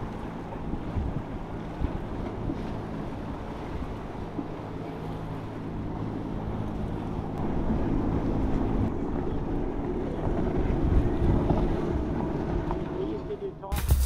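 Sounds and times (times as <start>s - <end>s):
wind on microphone: 0.0s - 4.6s, 5.8s - 13.2s
boat engines hum: 0.0s - 13.8s.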